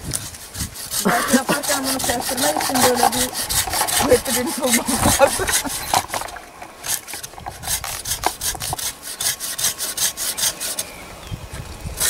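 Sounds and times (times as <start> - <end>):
hand saw cutting wood: 0.0 - 11.0.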